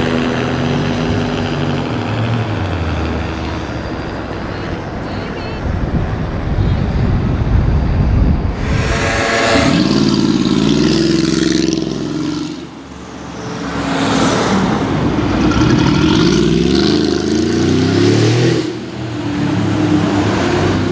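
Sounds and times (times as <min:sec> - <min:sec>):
car engine accelerating: 0:00.0 - 0:04.5, 0:08.5 - 0:20.9.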